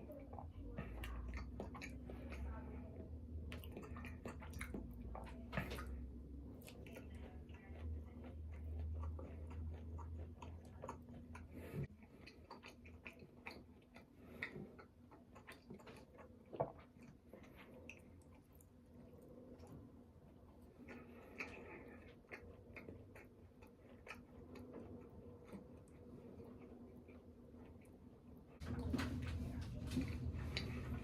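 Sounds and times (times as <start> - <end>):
chewing food with mouth smacks: 0.0 - 31.0.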